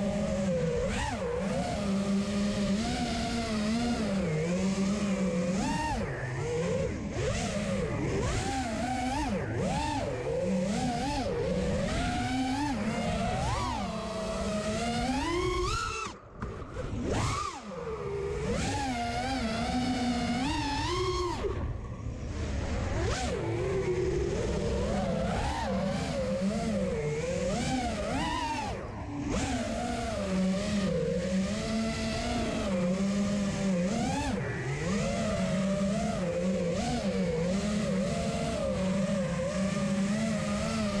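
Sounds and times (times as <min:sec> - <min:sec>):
quadcopter motors whining: 0:00.0 - 0:41.0.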